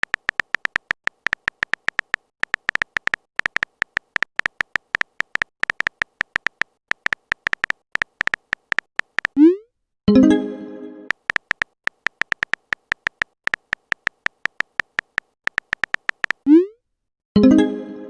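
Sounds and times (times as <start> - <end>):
high electronic typing beeps: 0.0 - 9.6, 11.1 - 16.7.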